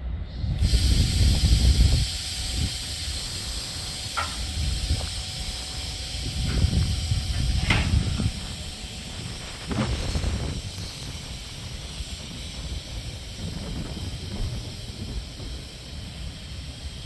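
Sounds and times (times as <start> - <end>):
train wheels rumbling on rail: 0.0 - 17.0
steady high hiss: 0.2 - 17.0.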